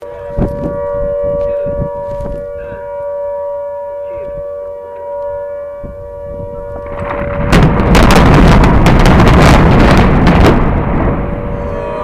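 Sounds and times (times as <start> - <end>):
warning siren steady note: 0.0 - 12.0.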